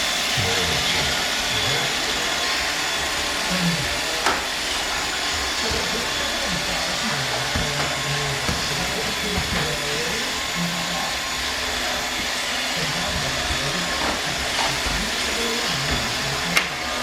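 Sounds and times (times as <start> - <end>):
robot vacuum running: 0.0 - 17.0.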